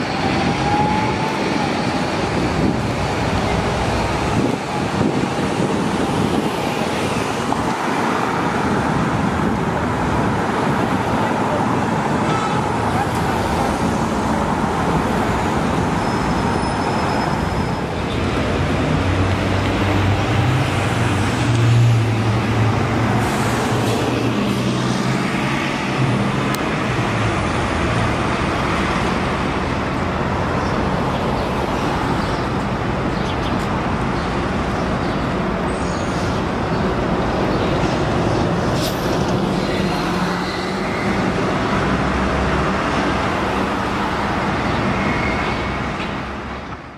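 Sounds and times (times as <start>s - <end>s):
bus diesel engine passing: 0.0s - 46.7s
street traffic noise: 0.0s - 46.9s.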